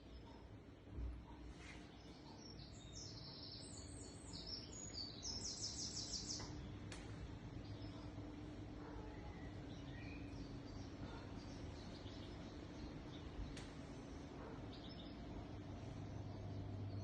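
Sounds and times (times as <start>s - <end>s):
low steady hum: 0.0s - 17.0s
songbird singing faintly: 0.0s - 17.0s.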